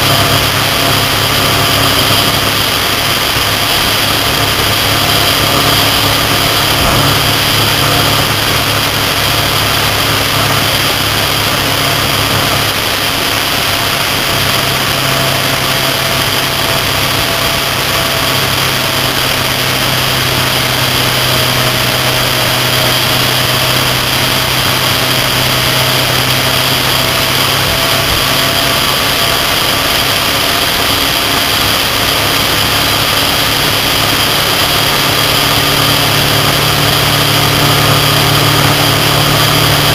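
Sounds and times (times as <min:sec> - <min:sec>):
motorcycle engine hum: 0:00.0 - 0:39.9
wind and road noise: 0:00.0 - 0:39.9.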